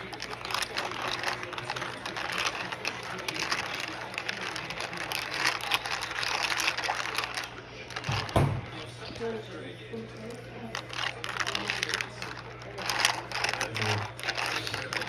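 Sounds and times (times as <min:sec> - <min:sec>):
keycaps clicking in soapy water: 0:00.0 - 0:09.3, 0:10.2 - 0:15.0.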